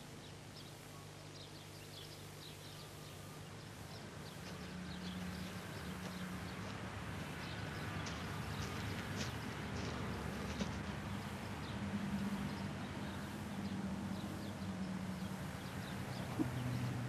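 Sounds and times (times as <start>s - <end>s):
low steady hum: 0.0s - 17.0s
small birds chirping: 0.0s - 17.0s.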